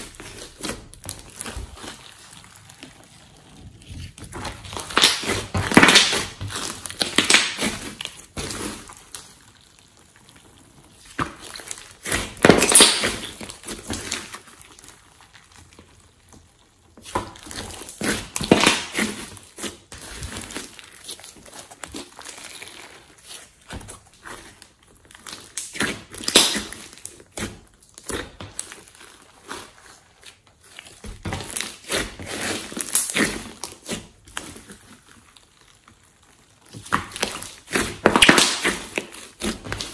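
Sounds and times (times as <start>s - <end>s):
slime squelching and crackling: 0.0s - 39.9s.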